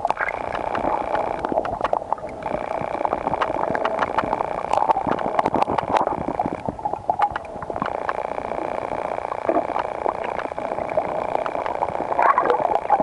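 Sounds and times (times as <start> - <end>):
high steady hum: 0.0 - 13.0
muffled underwater rushing: 0.0 - 13.0
underwater clicks and crackles: 0.0 - 13.0.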